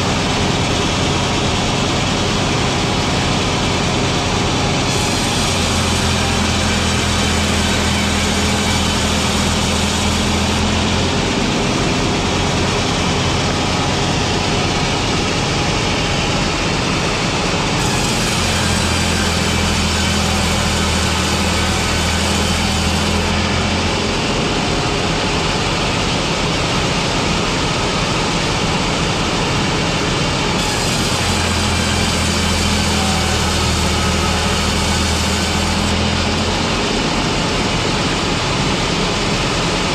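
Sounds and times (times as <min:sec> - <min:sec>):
factory machinery din: 0:00.0 - 0:39.9.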